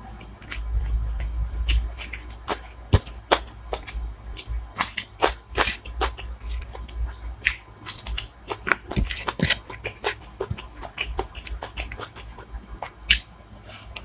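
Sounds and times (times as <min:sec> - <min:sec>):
chewing with wet smacks and crunches: 0:00.0 - 0:14.0.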